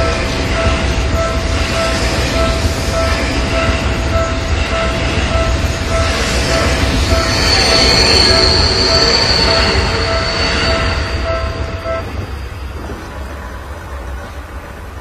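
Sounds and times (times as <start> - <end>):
level crossing warning bell: 0.0 - 12.6
electric train rumbling past: 0.0 - 15.0
train wheel squeal: 0.0 - 15.0.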